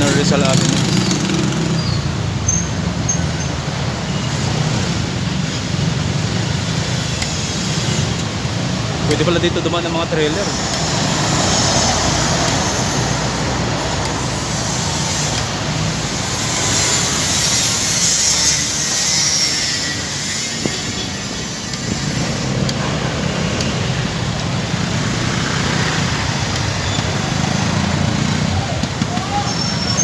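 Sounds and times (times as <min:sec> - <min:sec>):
road and wind noise: 0:00.0 - 0:30.0
traffic engines rumbling: 0:00.0 - 0:30.0.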